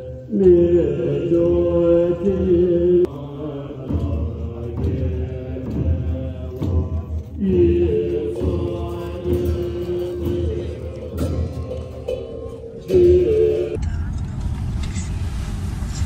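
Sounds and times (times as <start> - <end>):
voices chanting: 0.0 - 13.8.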